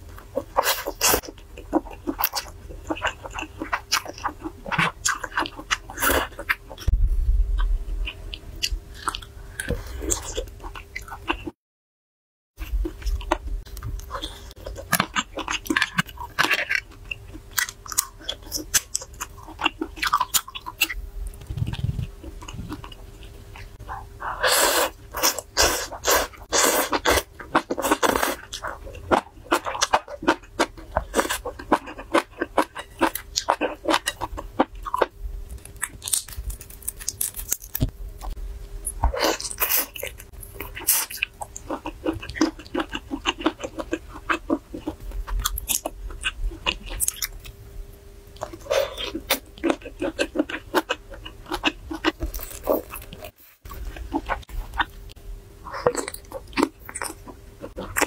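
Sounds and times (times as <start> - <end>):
chewing and crunching: 0.0 - 6.9, 7.6 - 11.5, 12.6 - 47.6, 48.3 - 58.0
faint steady hum: 0.0 - 11.5, 12.6 - 58.0.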